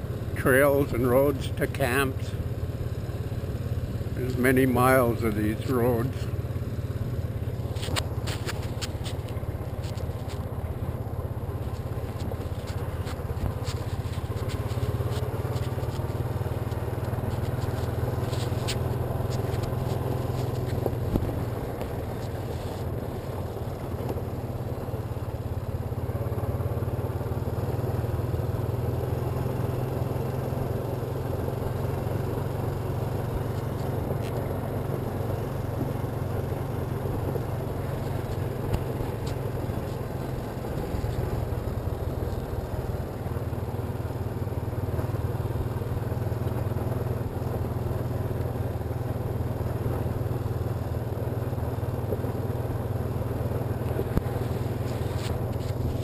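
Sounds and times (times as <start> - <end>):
tyres on gravel: 0.0 - 28.2, 28.8 - 56.0
quad engine running: 0.0 - 56.0.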